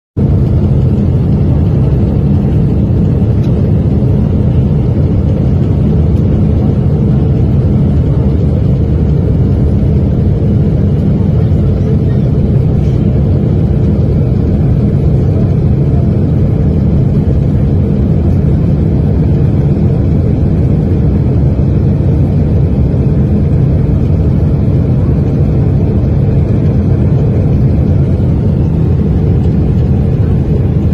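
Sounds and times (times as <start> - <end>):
jet engine low rumble: 0.2 - 30.9.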